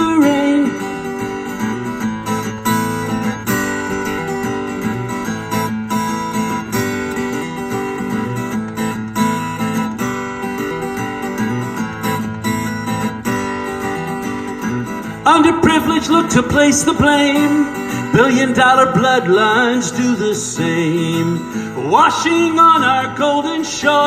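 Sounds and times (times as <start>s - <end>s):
strummed acoustic guitar with backing: 0.0s - 24.0s.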